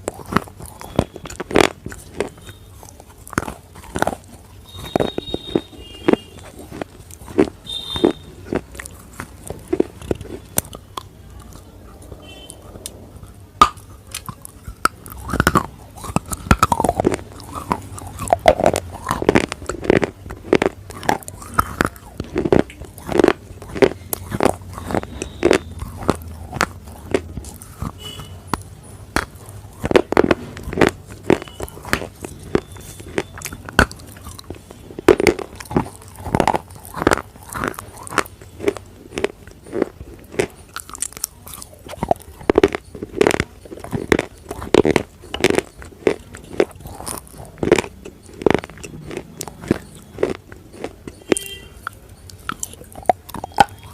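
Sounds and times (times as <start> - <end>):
crisp chewing crunches: 0.0 - 53.9.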